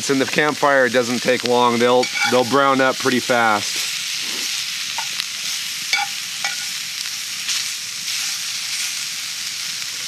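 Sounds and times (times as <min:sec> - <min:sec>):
sausages sizzling in a skillet: 0:00.0 - 0:10.0.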